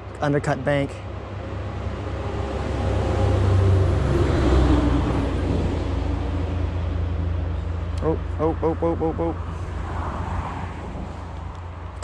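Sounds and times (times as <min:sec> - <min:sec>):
vehicle passing by: 0:01.4 - 0:12.0.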